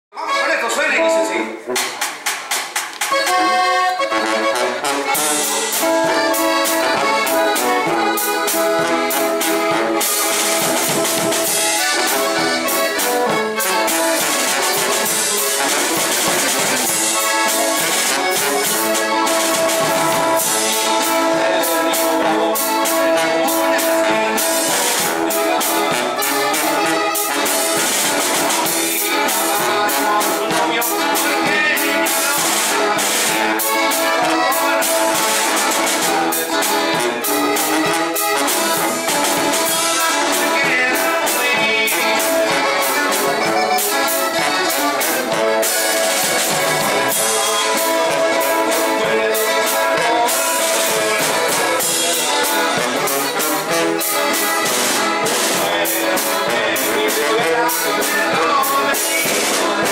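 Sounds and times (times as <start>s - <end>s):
accordion playing lead: 0.2s - 59.9s
drum kit: 1.7s - 59.9s
sousaphone: 3.1s - 59.9s.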